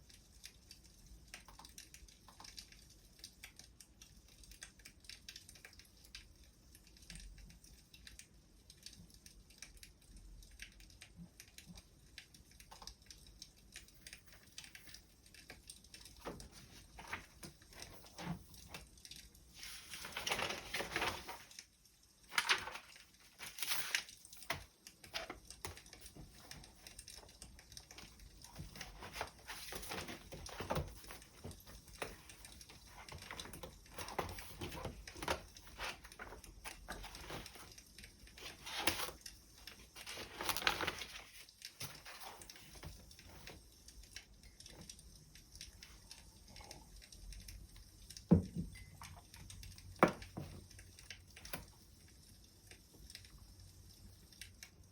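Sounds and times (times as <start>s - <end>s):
wood fire crackling: 0.0s - 48.2s.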